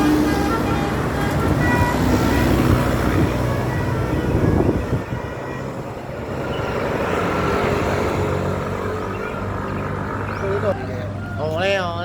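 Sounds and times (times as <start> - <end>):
bus engine droning: 0.0 - 12.0
road traffic noise: 0.0 - 12.0.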